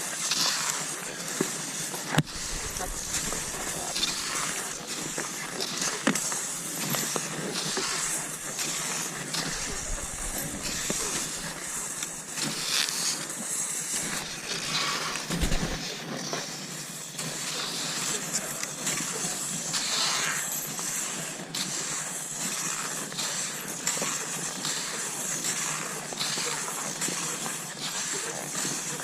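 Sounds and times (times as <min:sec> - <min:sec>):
skis gliding over snow: 0:00.0 - 0:29.0.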